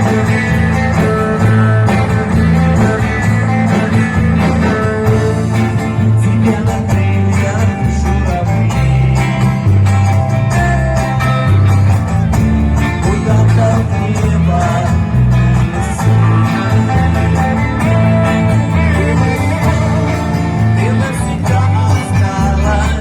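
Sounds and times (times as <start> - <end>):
bass notes: 0.0 - 23.0
guitar: 0.0 - 23.0
live band music: 0.0 - 23.0.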